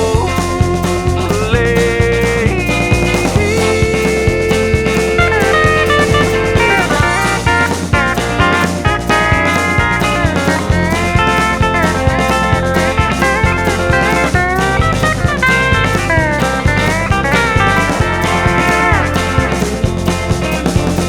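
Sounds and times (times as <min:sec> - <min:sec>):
bass: 0:00.0 - 0:21.0
country-rock electric guitar lead: 0:00.0 - 0:21.0
drum beat: 0:00.0 - 0:21.0.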